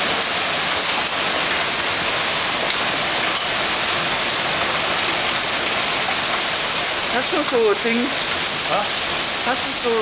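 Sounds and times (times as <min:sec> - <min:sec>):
hail and heavy rain: 0:00.0 - 0:10.0
hailstones clicking on hard surfaces: 0:00.2 - 0:10.0.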